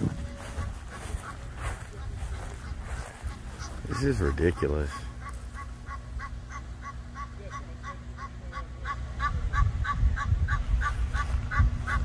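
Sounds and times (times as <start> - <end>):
goose honking: 0.0 - 12.0.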